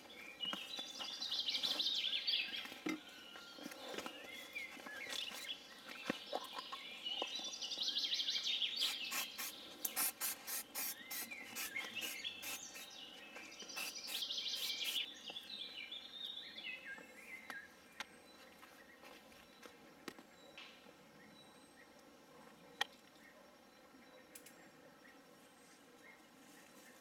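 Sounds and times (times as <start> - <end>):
songbirds singing: 0.0 - 27.0.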